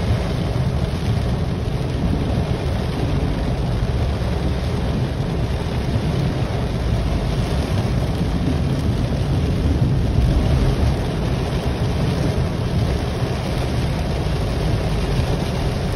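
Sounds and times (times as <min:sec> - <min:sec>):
heavy rain on car roof: 0:00.0 - 0:15.9.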